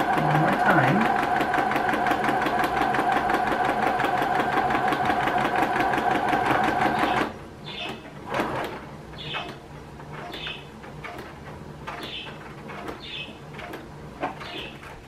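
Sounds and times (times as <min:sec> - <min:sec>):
sewing machine stitching: 0:00.0 - 0:15.0.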